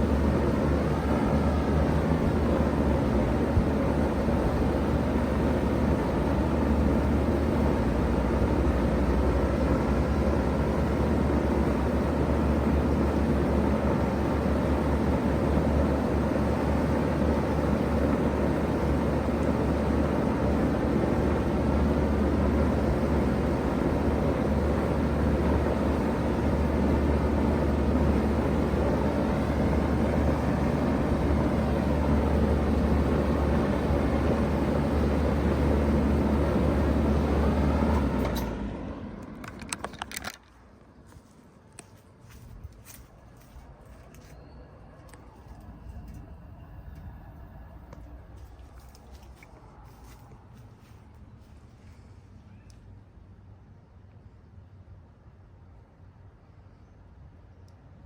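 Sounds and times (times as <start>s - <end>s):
fan air rushing: 0.0s - 54.3s
heat pump hum: 0.0s - 58.0s.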